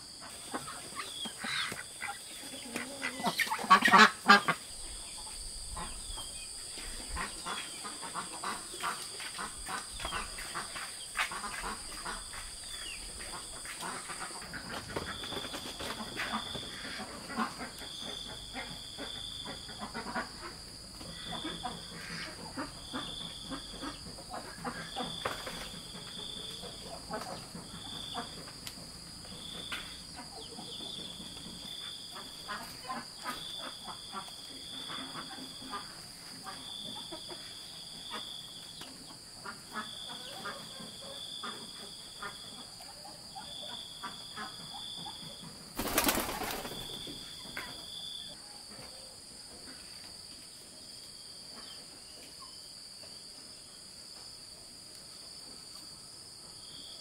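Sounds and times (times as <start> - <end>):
high insect drone: 0.0 - 57.0.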